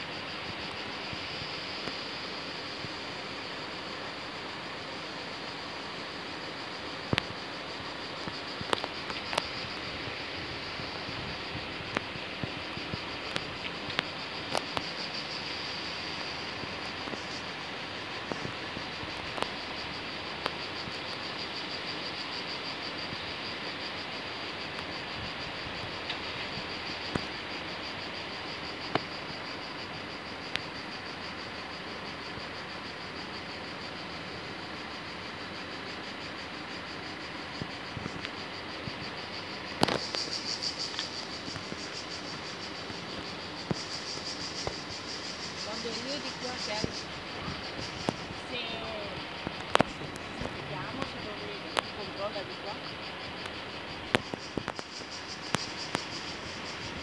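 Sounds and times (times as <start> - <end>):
background hiss: 0.0 - 57.0
cicadas singing: 0.0 - 57.0.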